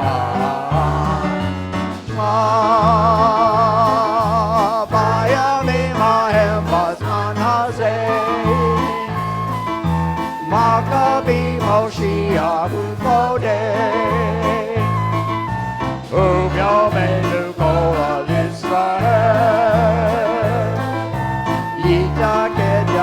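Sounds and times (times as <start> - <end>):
person singing with vibrato: 0.0 - 15.4, 16.0 - 23.0
bass line: 0.0 - 23.0
drum beat: 0.0 - 23.0.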